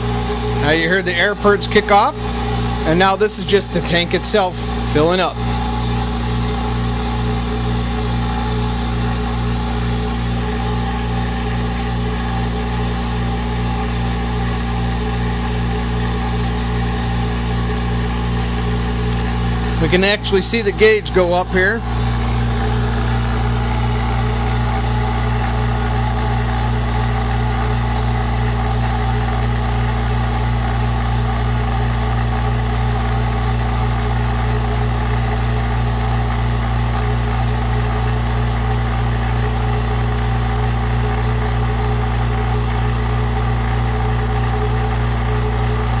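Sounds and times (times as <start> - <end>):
air compressor humming: 0.0 - 46.0.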